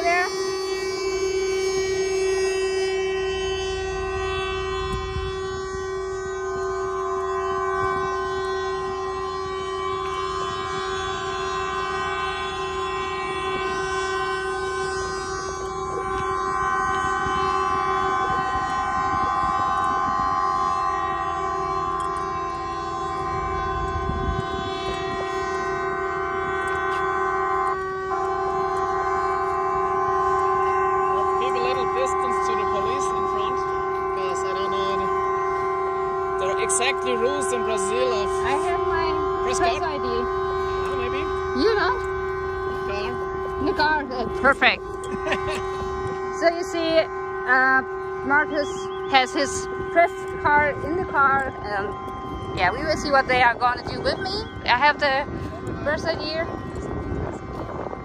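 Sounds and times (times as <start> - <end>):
truck air horns sustained: 0.0 - 58.0.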